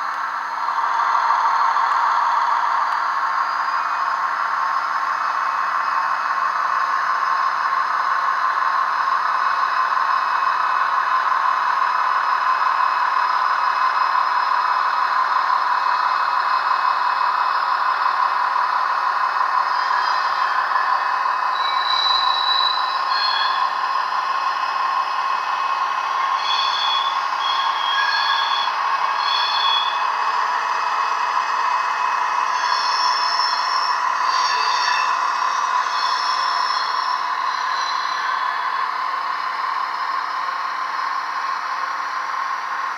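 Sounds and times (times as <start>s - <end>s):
model locomotive running sound: 0.0s - 42.9s.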